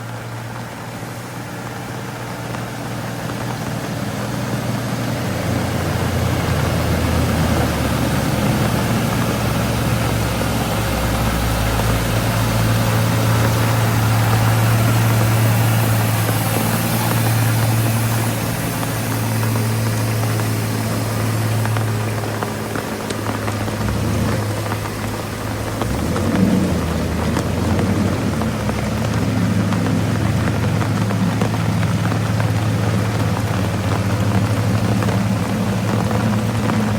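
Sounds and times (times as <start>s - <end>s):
truck diesel engines droning: 0.0s - 36.9s.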